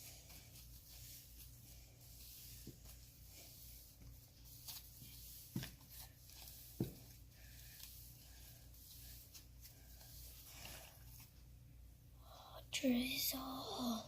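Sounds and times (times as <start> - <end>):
soft handling sounds: 0.0 - 11.8.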